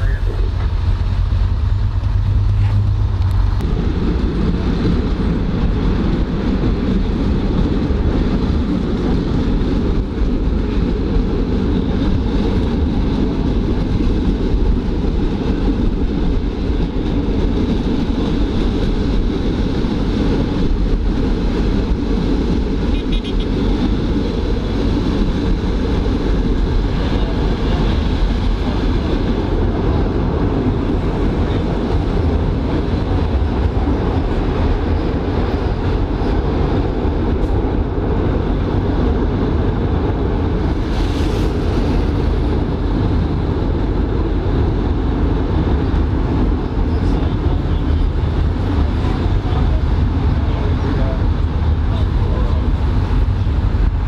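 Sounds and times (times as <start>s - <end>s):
railcar diesel engine: 0.0s - 54.0s.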